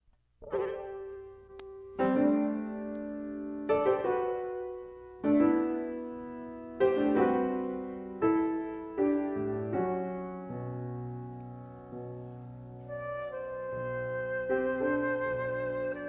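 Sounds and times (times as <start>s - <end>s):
piano chords: 0.4s - 16.0s.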